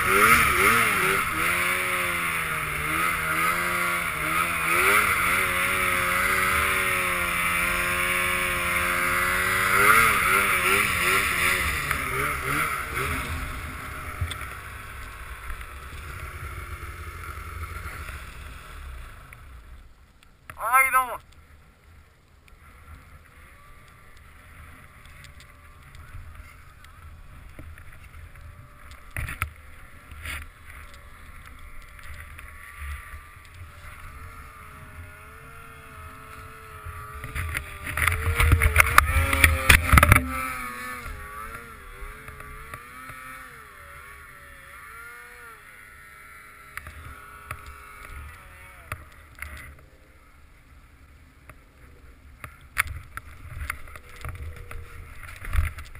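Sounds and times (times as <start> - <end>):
snowmobile engines running: 0.0 - 55.9.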